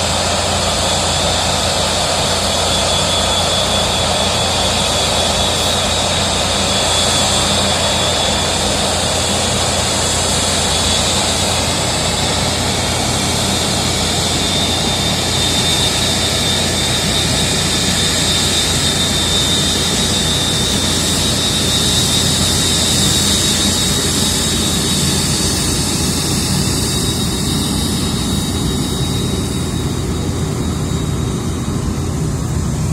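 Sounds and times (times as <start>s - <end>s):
jet engines roaring with high whine: 0.0s - 32.9s.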